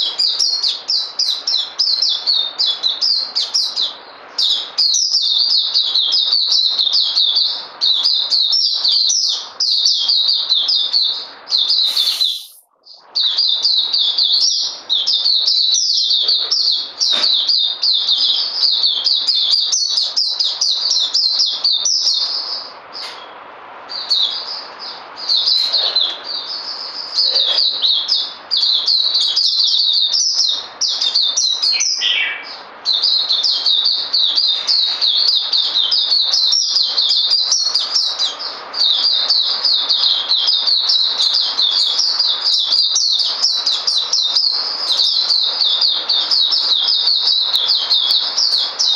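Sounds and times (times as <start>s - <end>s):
birds twittering song: 0.0s - 48.9s.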